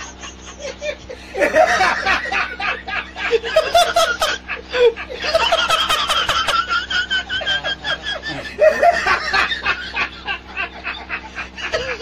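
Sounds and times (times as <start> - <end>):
man laughing hard: 0.0 - 12.0.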